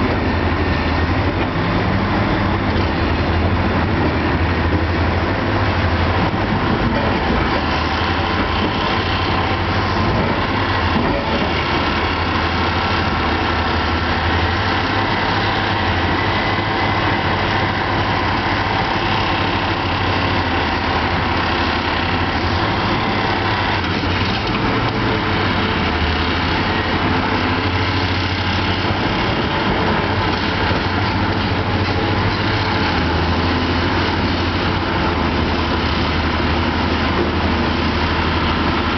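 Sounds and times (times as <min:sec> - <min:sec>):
heavy diesel machinery drone: 0:00.0 - 0:38.9.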